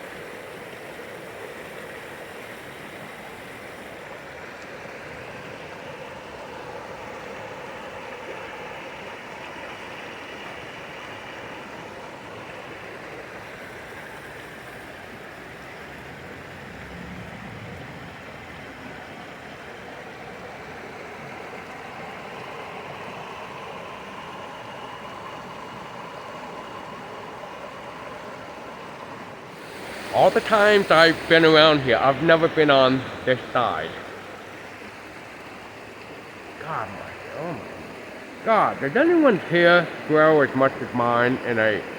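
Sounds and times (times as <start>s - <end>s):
creek flowing over rocks: 0.0s - 41.9s.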